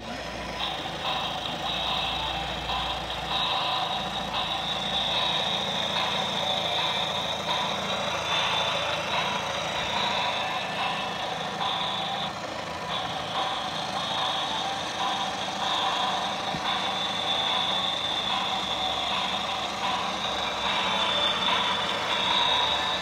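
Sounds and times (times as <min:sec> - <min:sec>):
toy engine idling sound effect: 0:00.0 - 0:23.0.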